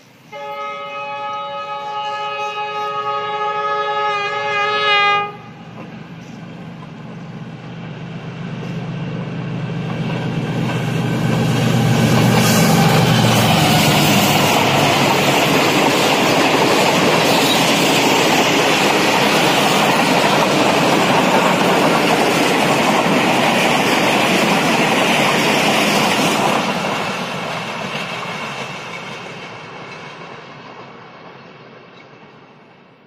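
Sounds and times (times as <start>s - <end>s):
train wheels on rails: 4.1s - 33.0s.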